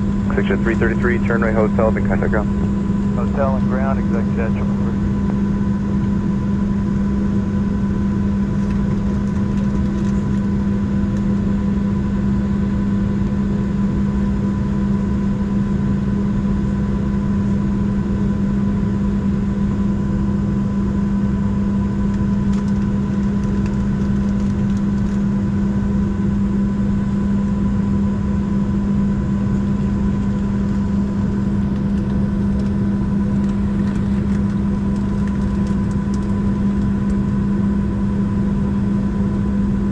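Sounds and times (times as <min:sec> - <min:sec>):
air-conditioning airflow: 0:00.0 - 0:39.9
airplane cabin engine drone: 0:00.0 - 0:39.9.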